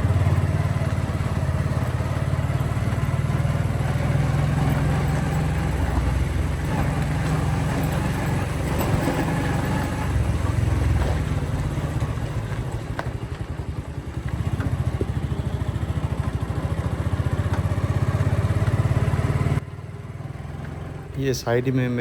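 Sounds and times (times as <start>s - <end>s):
motorcycle engine pulsing: 0.0s - 21.2s.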